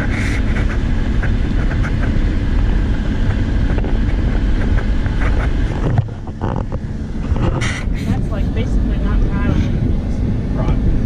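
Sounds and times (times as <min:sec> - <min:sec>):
car engine and tyre rumble: 0:00.0 - 0:11.0
wind noise on microphone: 0:00.0 - 0:11.0.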